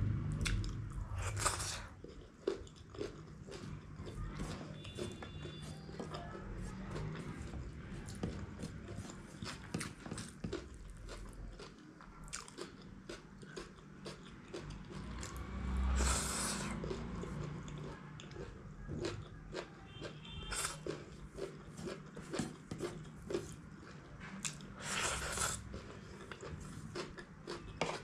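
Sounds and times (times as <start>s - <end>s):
close chewing with mouth clicks: 0.4s - 28.0s.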